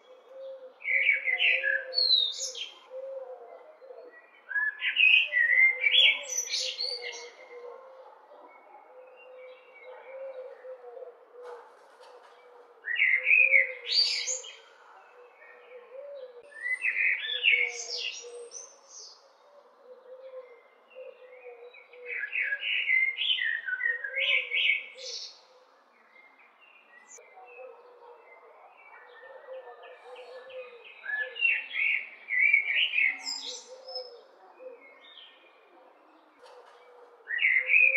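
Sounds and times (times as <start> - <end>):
blackbird singing: 0.0 - 7.8, 12.8 - 37.9.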